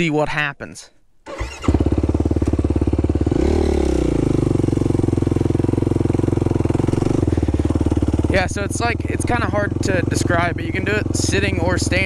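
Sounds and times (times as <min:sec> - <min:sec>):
quad engine revving: 0:01.3 - 0:12.0.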